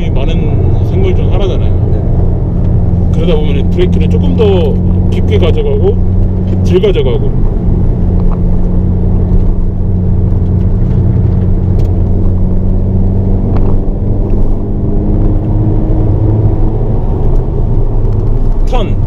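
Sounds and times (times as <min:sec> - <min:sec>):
car engine drone accelerating: 0:00.0 - 0:19.0.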